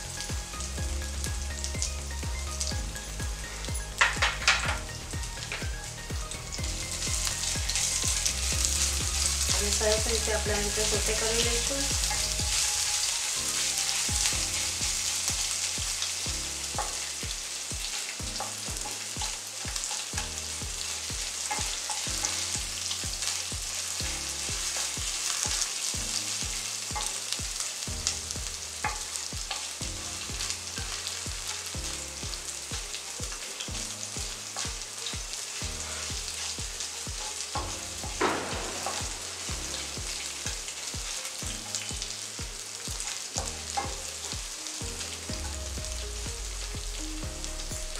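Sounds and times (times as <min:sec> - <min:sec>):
paste sizzling in hot oil: 0:00.0 - 0:47.9.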